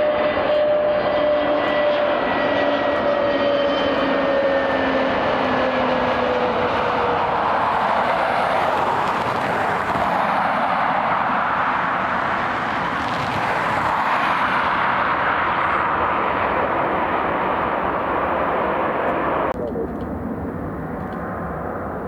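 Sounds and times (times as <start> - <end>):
airliner engines roaring: 0.0 - 22.0.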